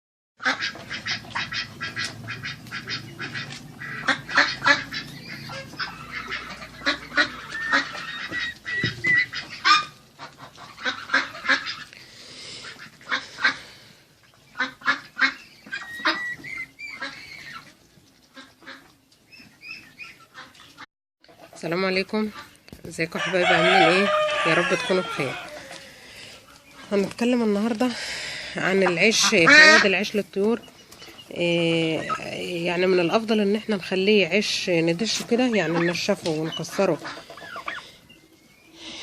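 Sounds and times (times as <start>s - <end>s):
flock of waterfowl calling: 0.4s - 22.6s, 23.2s - 39.0s.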